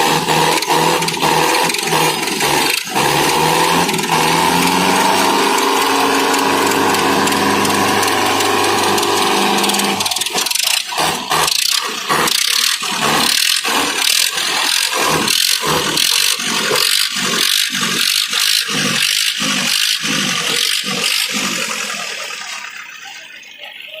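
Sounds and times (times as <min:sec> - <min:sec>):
tractor diesel engines chugging: 0:00.0 - 0:24.0.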